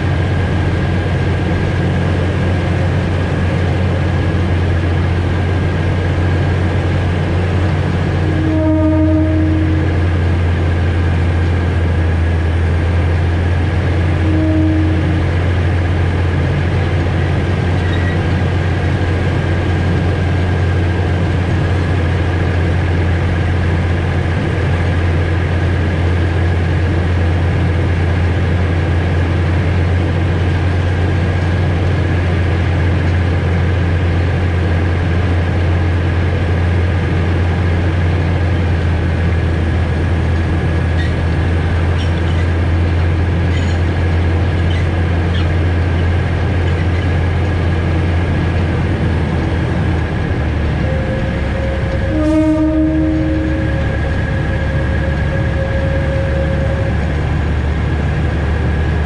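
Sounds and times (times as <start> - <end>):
high whine: 0.0 - 33.7, 35.9 - 59.0
train engine drone: 0.0 - 59.0.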